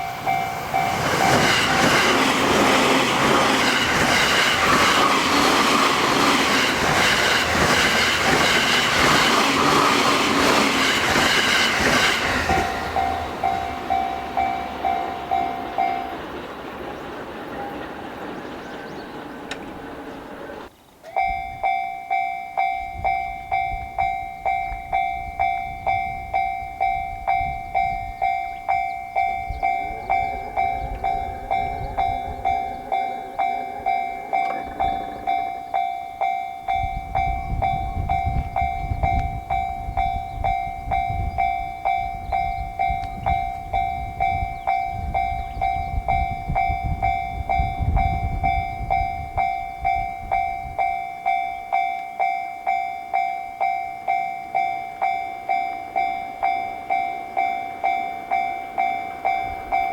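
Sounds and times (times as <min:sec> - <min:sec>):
electric train rumbling: 0:00.0 - 0:59.9
level crossing warning bell: 0:00.0 - 0:59.9.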